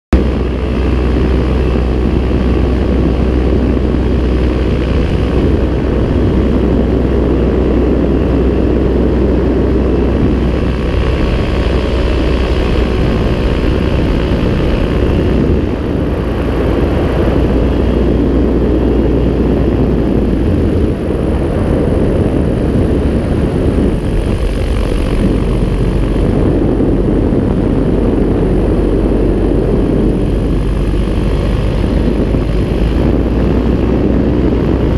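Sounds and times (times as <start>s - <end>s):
paramotor engine and propeller: 0.1s - 34.9s
wind noise on microphone: 0.1s - 34.9s.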